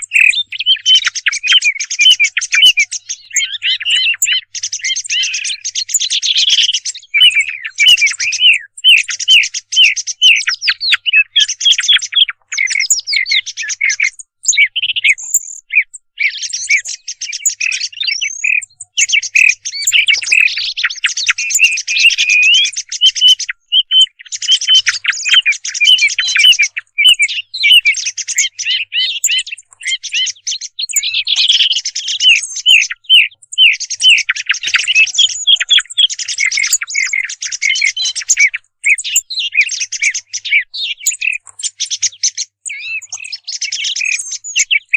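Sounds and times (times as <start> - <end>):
thrush chirps and whistles: 0.0 - 44.9.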